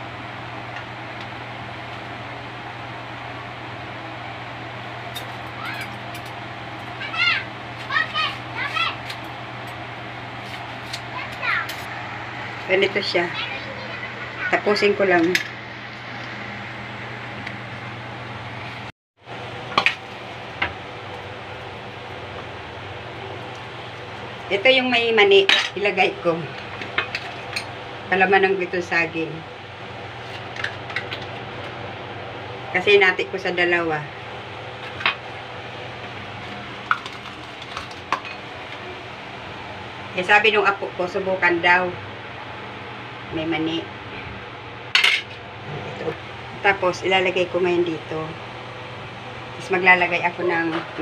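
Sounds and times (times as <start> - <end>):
low hum and hiss of room: 0.0 - 51.0.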